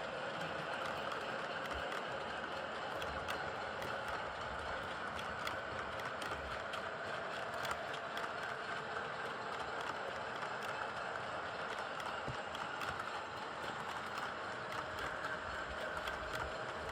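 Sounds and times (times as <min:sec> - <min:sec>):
model locomotive motor whirring: 0:00.0 - 0:16.9.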